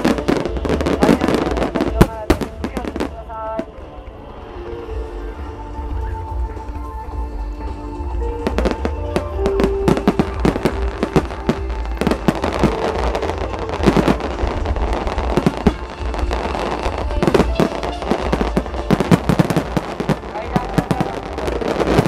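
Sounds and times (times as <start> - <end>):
fireworks bangs and crackles: 0.0 - 4.6, 5.3 - 22.0
music through loudspeakers: 0.0 - 22.0.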